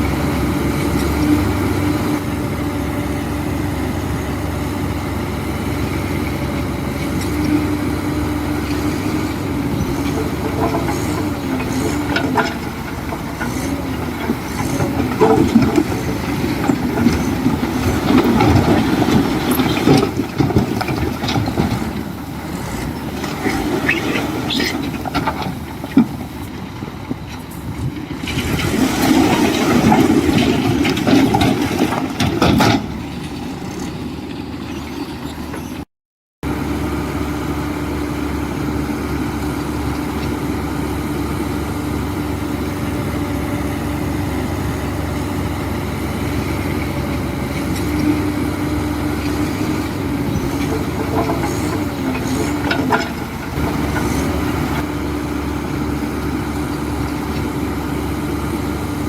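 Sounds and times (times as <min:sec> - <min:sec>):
earthmoving machinery diesel engine: 0:00.0 - 0:59.0.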